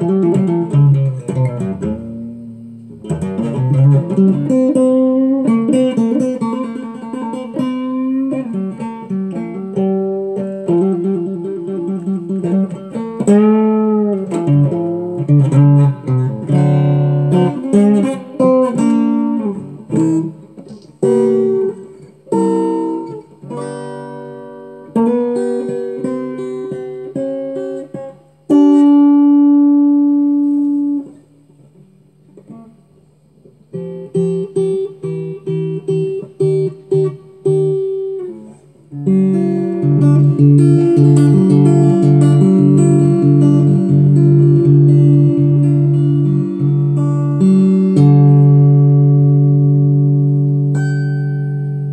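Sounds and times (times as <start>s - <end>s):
guitar solo improvisation: 0.0s - 51.9s.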